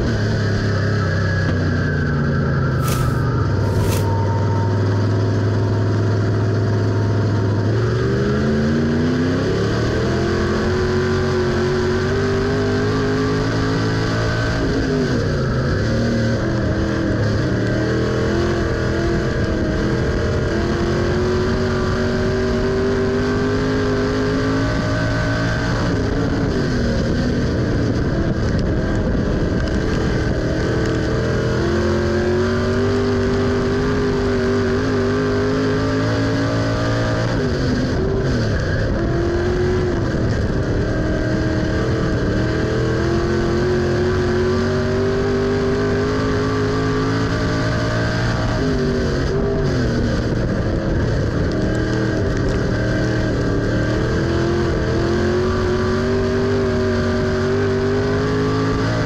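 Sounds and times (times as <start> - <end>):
race car engine revving: 2.4 - 59.0.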